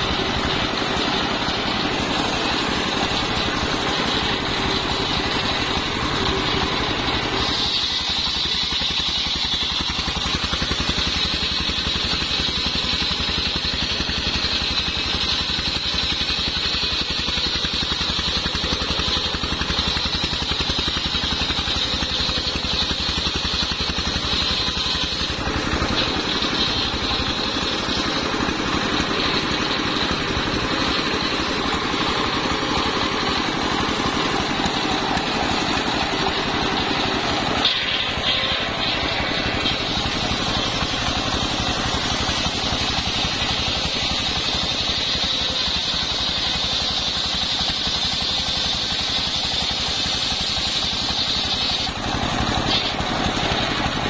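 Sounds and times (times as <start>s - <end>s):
circular saw cutting log: 0.0s - 54.0s
diesel engine running: 0.0s - 54.0s.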